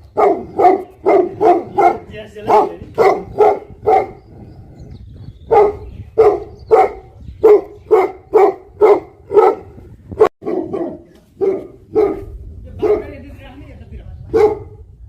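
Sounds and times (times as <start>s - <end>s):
dog barking: 0.1s - 4.2s, 5.5s - 13.2s, 14.3s - 14.8s.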